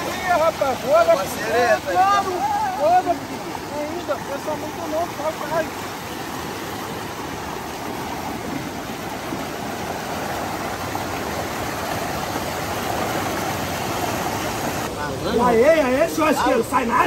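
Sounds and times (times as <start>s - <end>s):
waterfall roaring over rocks: 0.0s - 17.0s.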